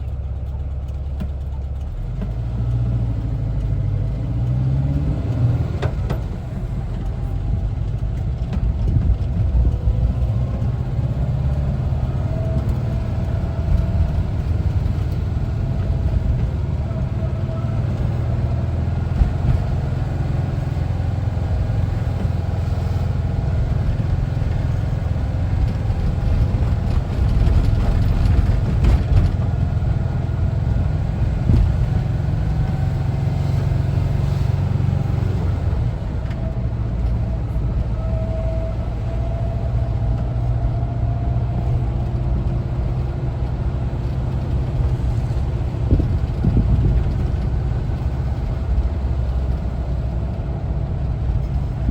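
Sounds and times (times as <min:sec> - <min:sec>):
van engine rumbling while driving: 0:00.0 - 0:51.9.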